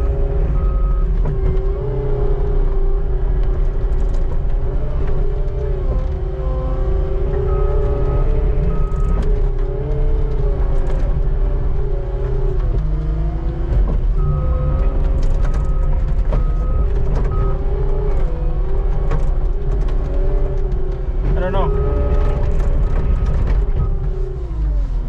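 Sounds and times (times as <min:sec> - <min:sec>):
skid steer engine running: 0:00.0 - 0:24.7
knocks and clunks: 0:03.2 - 0:24.6.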